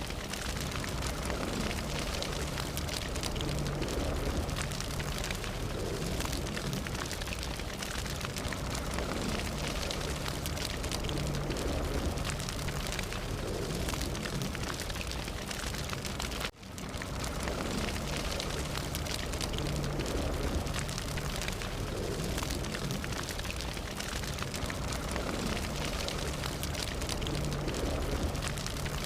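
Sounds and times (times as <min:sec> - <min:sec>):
fire crackling and popping: 0:00.0 - 0:29.0
low rumble: 0:00.0 - 0:29.0.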